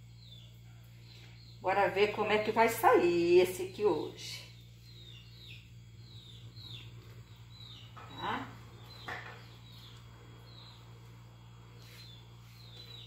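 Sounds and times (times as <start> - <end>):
small bird chirping: 0.0 - 13.0
steady low hum: 0.0 - 13.0.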